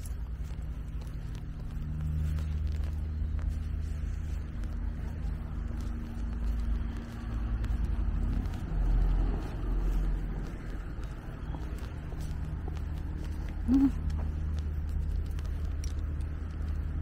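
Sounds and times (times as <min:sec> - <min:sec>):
held hum: 0:00.0 - 0:17.0
vehicle engine rumbling: 0:00.0 - 0:17.0.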